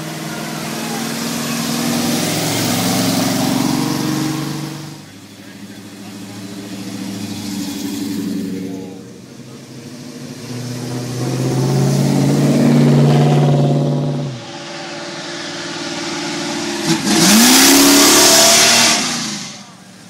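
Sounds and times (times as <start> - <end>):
car engine revving sharply: 0.0 - 20.0
cars driving past accelerating: 0.0 - 20.0.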